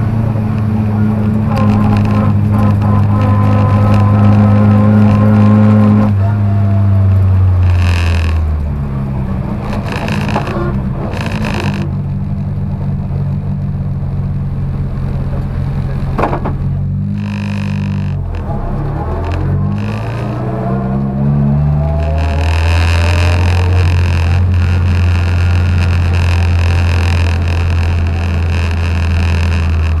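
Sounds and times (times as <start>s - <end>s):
rally car engine in cabin: 0.0s - 30.0s.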